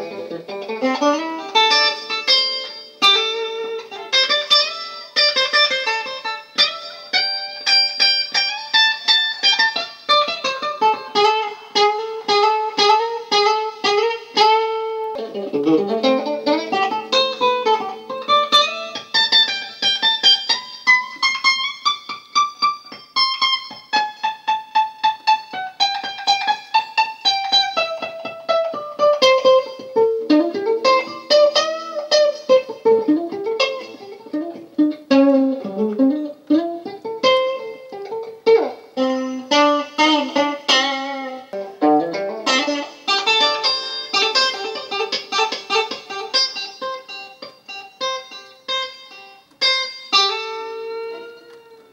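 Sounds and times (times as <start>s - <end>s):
lead electric guitar: 0.0s - 51.9s.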